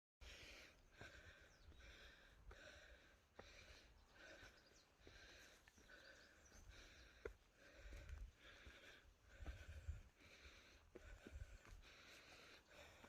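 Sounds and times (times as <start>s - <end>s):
heavy breathing: 0.2s - 13.0s.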